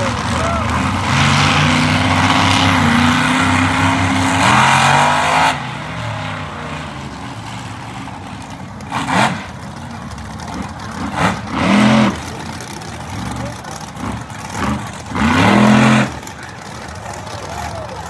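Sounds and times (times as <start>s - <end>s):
arena noise: 0.0s - 18.0s
monster truck engine running: 0.0s - 18.0s.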